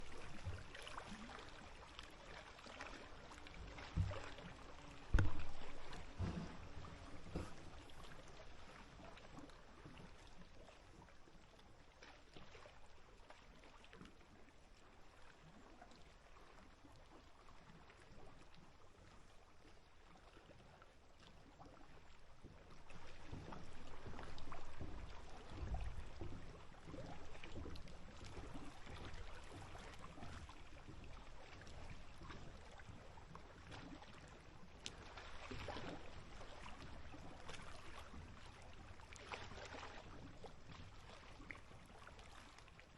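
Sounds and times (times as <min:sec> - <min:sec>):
small waves lapping: 0:00.0 - 0:42.9.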